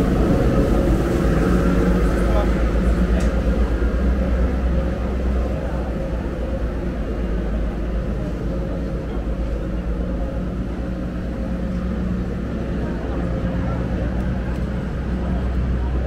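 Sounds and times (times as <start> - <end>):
busy street low rumble: 0.0 - 16.0.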